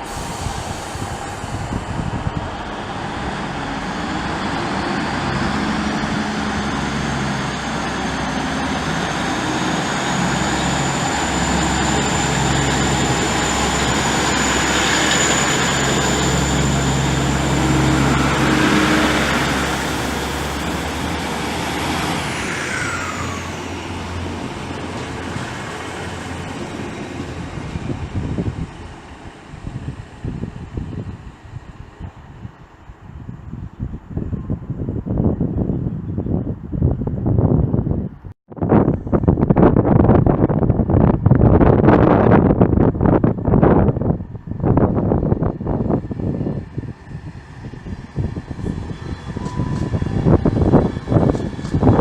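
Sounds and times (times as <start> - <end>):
train high whine: 0.0 - 36.6, 38.9 - 52.0
train low hum: 0.0 - 52.0.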